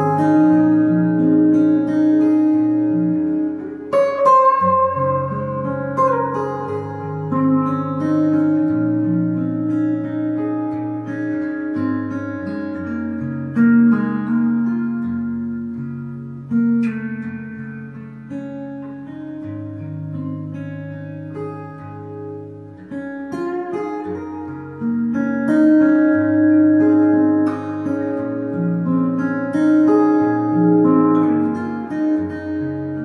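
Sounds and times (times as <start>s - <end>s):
fingerstyle acoustic guitar: 0.0s - 33.0s.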